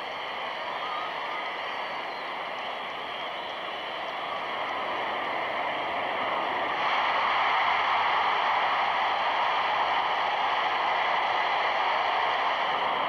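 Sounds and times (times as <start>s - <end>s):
stadium crowd roar: 0.0s - 13.0s.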